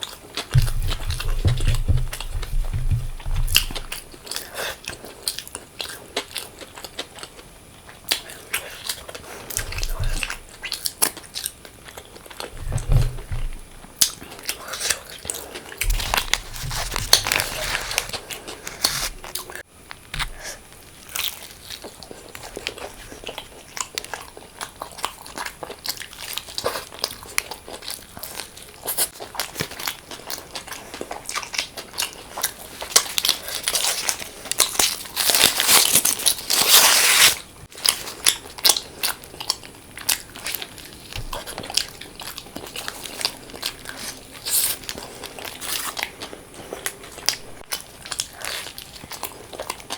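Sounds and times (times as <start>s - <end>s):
person biting and chewing food: 0.0s - 7.4s, 8.1s - 49.9s.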